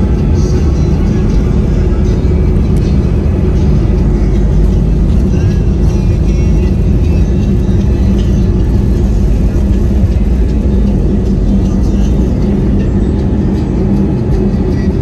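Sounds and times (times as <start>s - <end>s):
jet engines rumbling in cabin: 0.0s - 15.0s
music from a phone: 0.0s - 15.0s.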